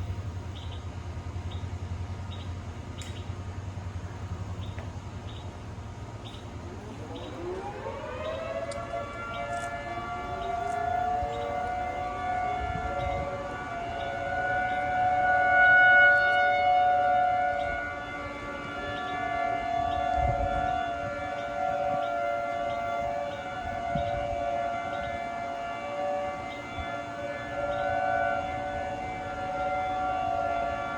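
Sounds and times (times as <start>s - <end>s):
lower-pitched second siren: 0.0s - 30.9s
warning siren wailing: 0.0s - 30.9s.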